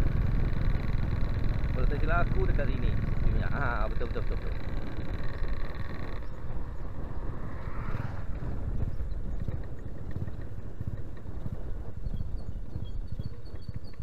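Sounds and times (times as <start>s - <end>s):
engine whine: 0.0s - 14.0s
motorcycle engine running: 0.0s - 14.0s
wind and road noise: 0.0s - 14.0s.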